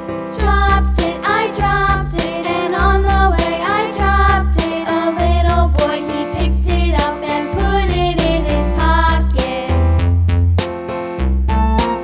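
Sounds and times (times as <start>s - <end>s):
upbeat children's music: 0.3s - 12.0s.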